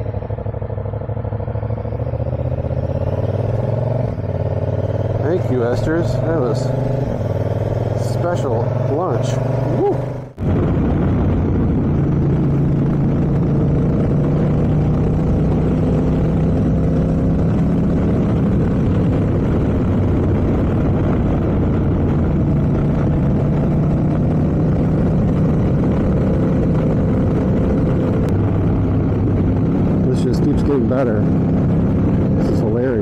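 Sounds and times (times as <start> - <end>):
motorcycle engine cruising: 0.0 - 33.0
wind and road noise: 0.0 - 33.0.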